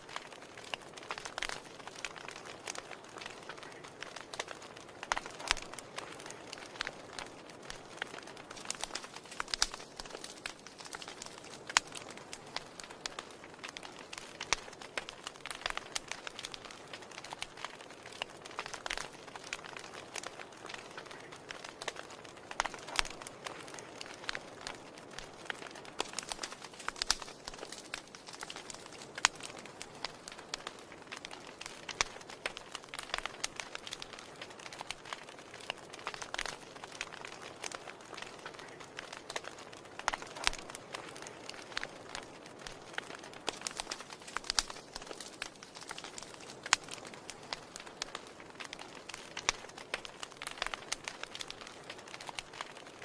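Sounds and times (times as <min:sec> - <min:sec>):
soft steady hiss of fire: 0:00.0 - 0:53.0
wood fire crackling and popping: 0:00.0 - 0:53.0.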